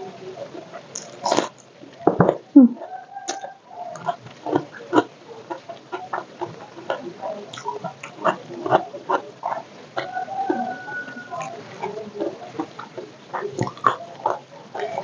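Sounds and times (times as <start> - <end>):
chewing crispy food: 0.0 - 15.0
wet mouth noises: 0.9 - 1.7, 2.3 - 10.8, 11.4 - 15.0.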